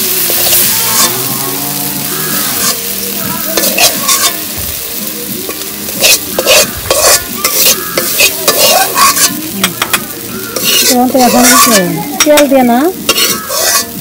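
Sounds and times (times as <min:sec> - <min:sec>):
frying oil sizzling: 0:00.0 - 0:14.0
metal spoon scraping a wok: 0:00.1 - 0:01.3, 0:02.1 - 0:04.5, 0:05.5 - 0:14.0.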